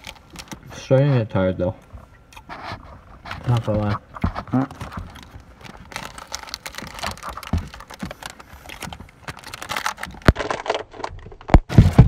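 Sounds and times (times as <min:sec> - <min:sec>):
plastic wrapper crinkling: 0:00.0 - 0:01.4, 0:02.4 - 0:12.0.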